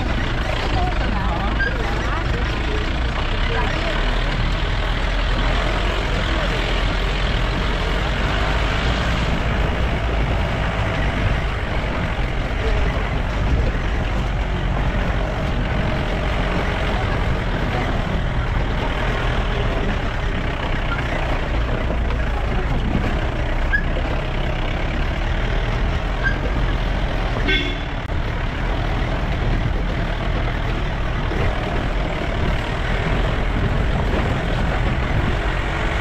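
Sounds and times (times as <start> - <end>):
jeep engine running: 0.0 - 36.0
tyres rumbling over stony track: 0.0 - 36.0.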